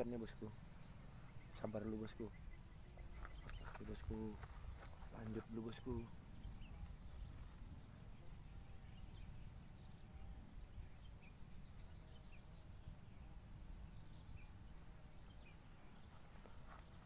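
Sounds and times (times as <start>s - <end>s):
steady high-pitched whine: 0.0s - 17.0s.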